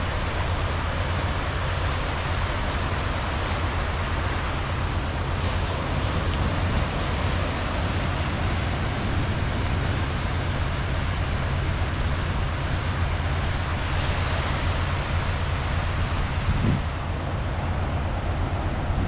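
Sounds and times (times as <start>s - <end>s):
small waves washing on sand: 0.0s - 19.0s.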